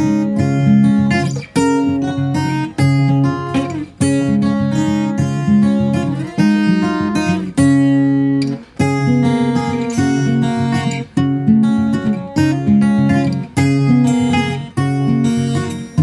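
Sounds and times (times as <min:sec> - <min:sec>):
country music with acoustic guitar: 0:00.0 - 0:16.0.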